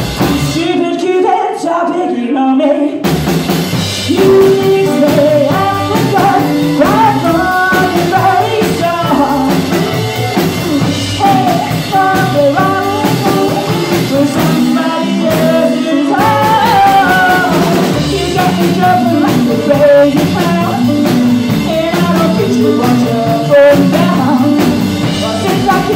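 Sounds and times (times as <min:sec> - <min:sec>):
rock and roll band playing: 0:00.0 - 0:01.3, 0:03.0 - 0:25.9
woman singing lead: 0:00.1 - 0:03.1, 0:04.0 - 0:25.9.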